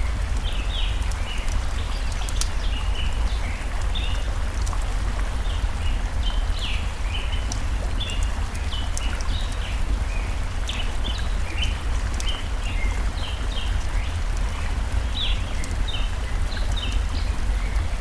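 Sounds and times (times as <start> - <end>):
stream water flowing: 0.0 - 18.0.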